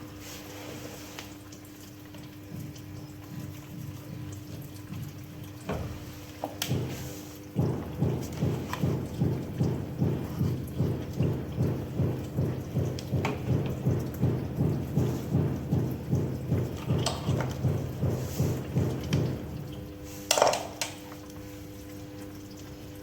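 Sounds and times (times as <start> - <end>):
washing machine churning water: 0.0 - 23.0.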